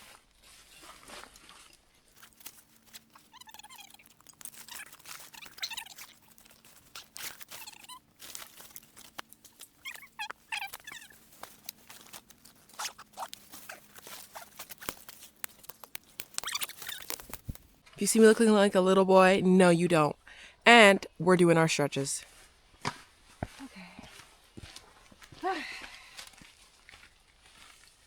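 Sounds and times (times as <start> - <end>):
camping gear crinkling: 0.0 - 18.2, 22.2 - 28.0.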